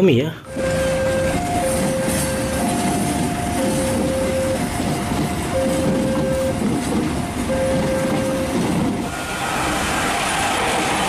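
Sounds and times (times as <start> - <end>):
approaching train rushing: 0.5 - 11.0
train coaches rumbling past: 0.5 - 11.0.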